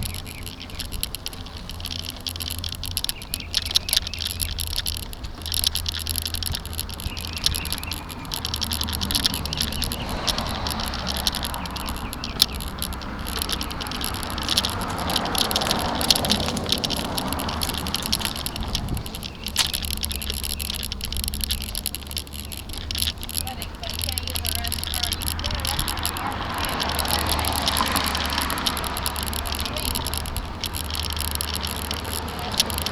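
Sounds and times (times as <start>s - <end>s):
camera rattling on mount: 0.0s - 32.9s.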